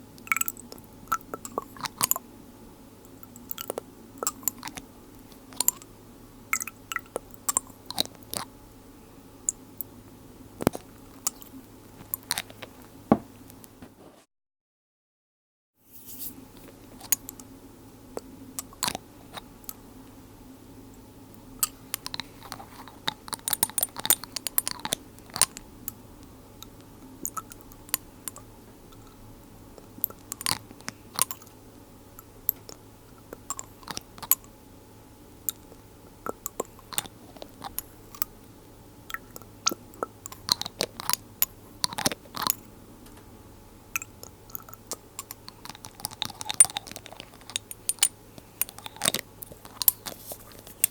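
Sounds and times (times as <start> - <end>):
faint steady hum: 0.0 - 14.2, 15.8 - 50.9.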